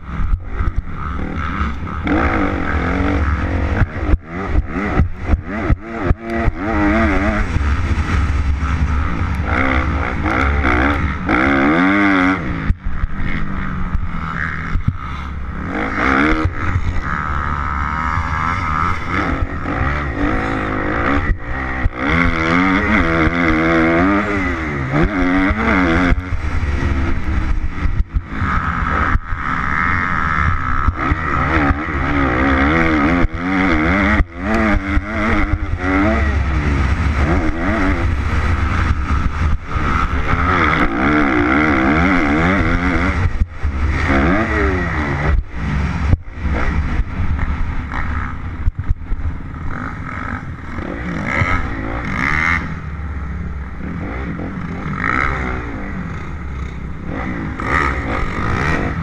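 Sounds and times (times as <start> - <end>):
motocross engine revving: 0.0 - 59.0
wind rumble on microphone: 0.0 - 59.0.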